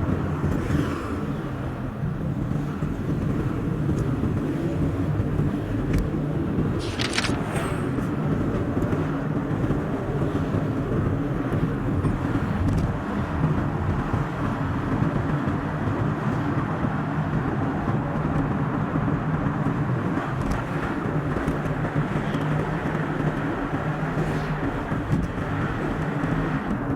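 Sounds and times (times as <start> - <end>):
car engine and tyre noise: 0.0 - 26.9.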